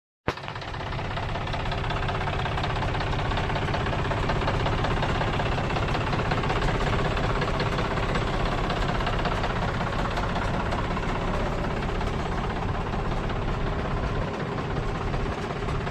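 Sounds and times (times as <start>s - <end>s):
tractor diesel engine running: 0.3s - 15.9s.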